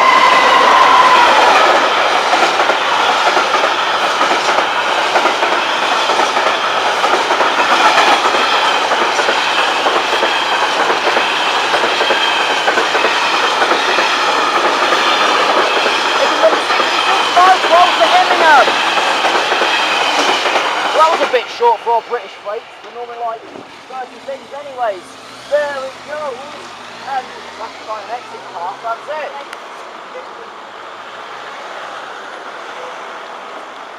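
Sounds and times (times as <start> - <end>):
freight train wheels clattering: 0.0 - 29.8.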